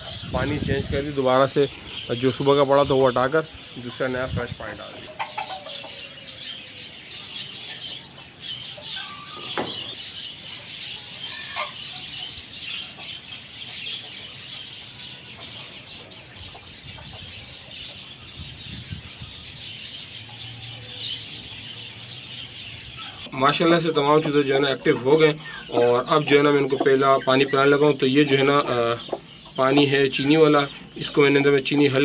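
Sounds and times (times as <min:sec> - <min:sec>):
chickens clucking: 0:00.0 - 0:32.0
chicks peeping: 0:00.0 - 0:32.0.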